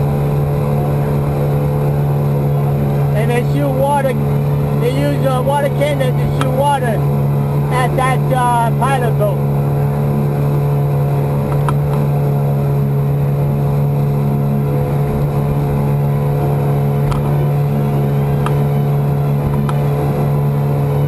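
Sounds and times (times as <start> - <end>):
outboard motor droning: 0.0 - 21.0.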